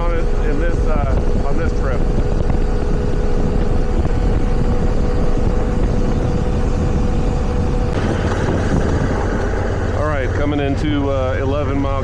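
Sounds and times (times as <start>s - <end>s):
steady whine: 0.0s - 12.0s
wind rush: 0.0s - 12.0s
motorcycle engine running: 1.0s - 12.0s.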